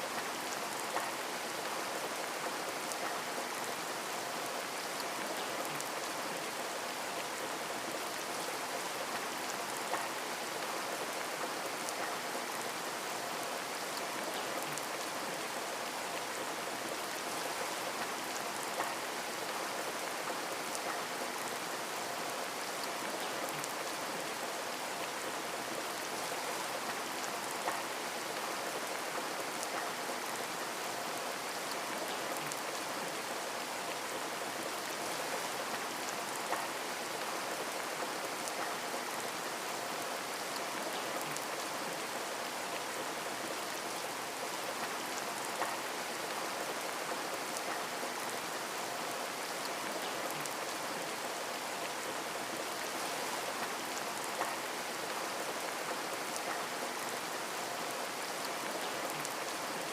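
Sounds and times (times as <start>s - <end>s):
rain hissing on a window: 0.0s - 59.9s.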